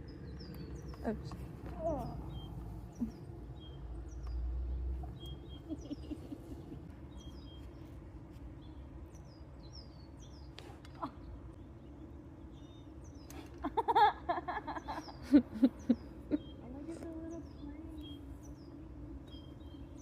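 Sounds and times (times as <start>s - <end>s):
bird chirping: 0.0s - 14.1s, 14.7s - 20.0s.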